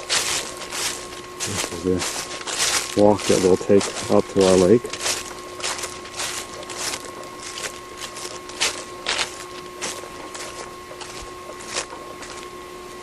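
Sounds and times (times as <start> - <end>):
crunching footsteps outdoors: 0.0 - 13.0.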